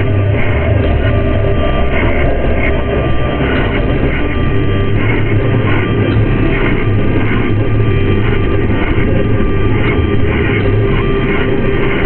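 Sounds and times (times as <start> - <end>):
distorted harsh noise music: 0.0 - 12.0.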